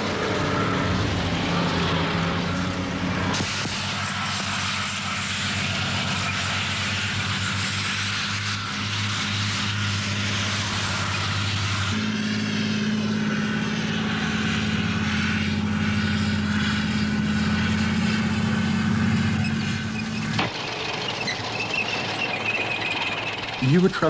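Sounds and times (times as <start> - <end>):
hiss of tracks: 0.0 - 24.0
tank engine drone: 0.0 - 24.0.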